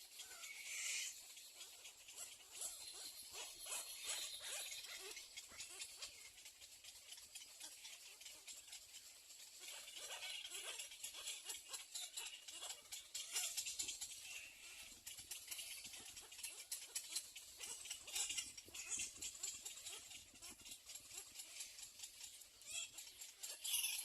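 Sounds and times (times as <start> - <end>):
bird chicks clicking calls: 0.0 - 24.0.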